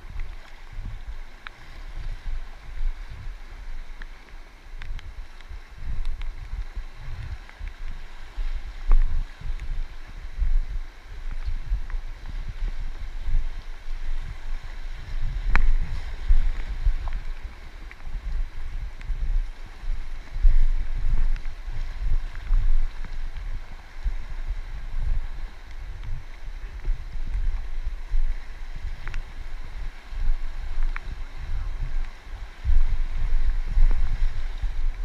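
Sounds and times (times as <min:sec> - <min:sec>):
river water rushing: 0:00.0 - 0:35.0
wind buffeting microphone: 0:00.0 - 0:35.0.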